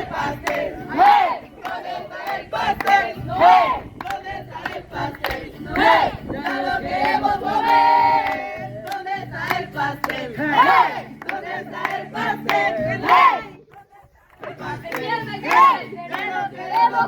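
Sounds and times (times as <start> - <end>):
crowd shouting and cheering: 0.0 - 4.4, 5.0 - 17.0.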